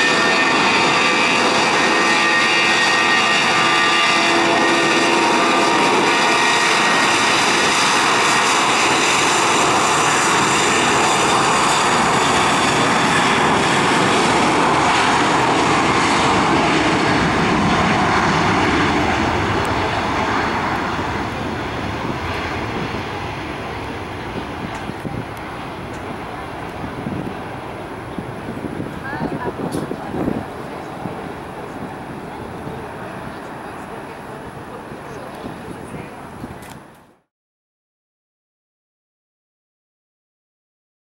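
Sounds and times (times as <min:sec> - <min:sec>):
jet engines roaring: 0:00.0 - 0:37.2.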